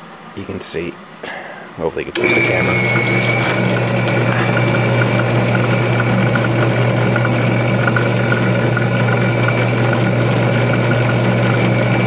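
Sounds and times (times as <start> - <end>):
drill press motor humming: 2.1 - 12.0.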